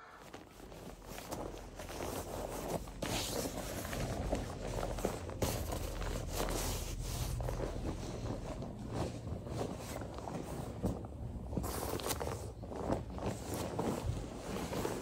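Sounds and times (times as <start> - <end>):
jacket fabric rustling: 0.0 - 15.0.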